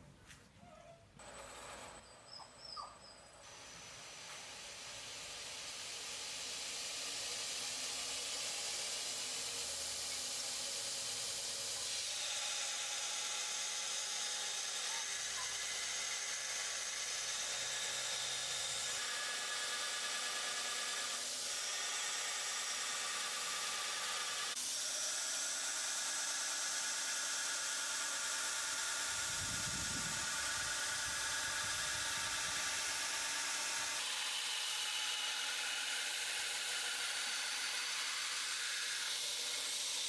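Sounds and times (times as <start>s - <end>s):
power tool running with hiss: 3.4s - 40.0s.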